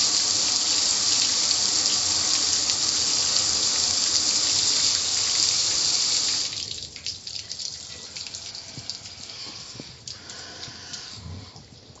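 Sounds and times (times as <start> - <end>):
water spraying: 0.0 - 11.2
water dripping and trickling: 0.0 - 12.0.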